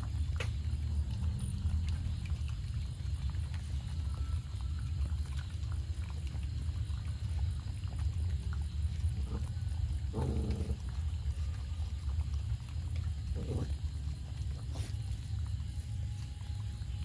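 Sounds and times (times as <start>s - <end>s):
animals chewing and lapping: 0.0s - 17.0s
steady low rumble: 0.0s - 17.0s.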